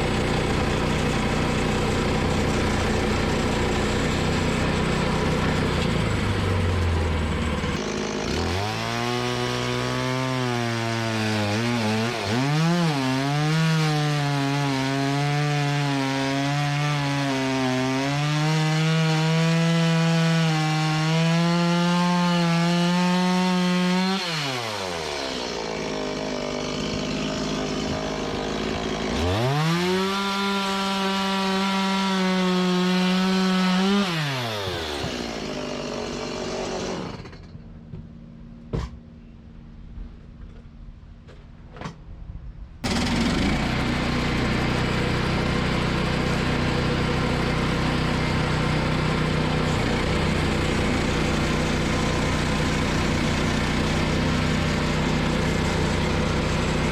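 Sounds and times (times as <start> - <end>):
chainsaw cutting log: 0.0 - 37.6, 42.8 - 56.9.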